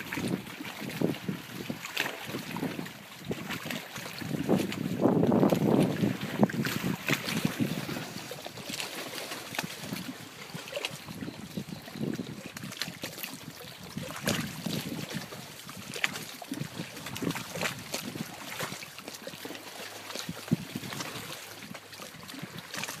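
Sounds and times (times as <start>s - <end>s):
small waves lapping at shore: 0.0s - 23.0s.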